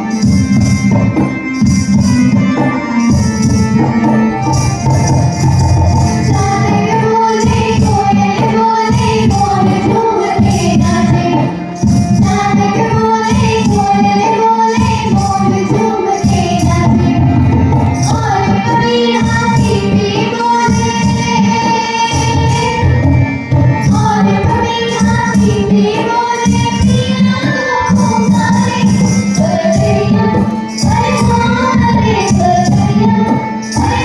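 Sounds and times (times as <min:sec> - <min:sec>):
steady percussion beat: 0:00.0 - 0:34.0
girls singing folk song: 0:06.2 - 0:34.0.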